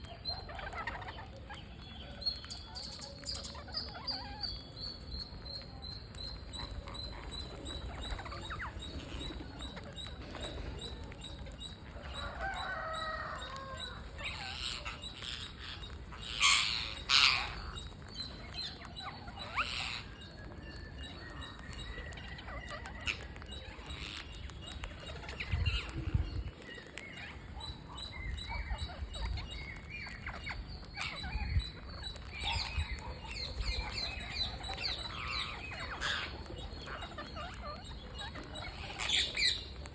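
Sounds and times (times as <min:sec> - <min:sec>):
parrots chirping and squawking: 0:00.1 - 0:39.9.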